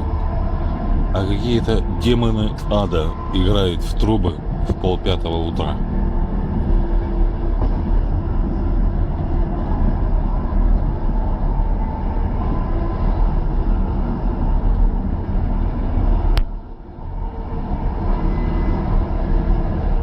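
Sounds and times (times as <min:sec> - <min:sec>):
drawn-out droning tones: 0:00.0 - 0:20.0
train rumble inside carriage: 0:00.0 - 0:20.0.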